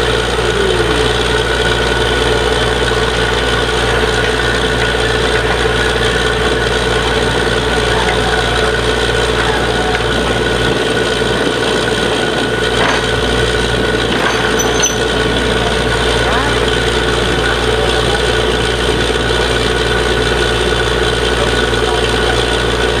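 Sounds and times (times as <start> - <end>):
drilling rig engine running: 0.0 - 23.0.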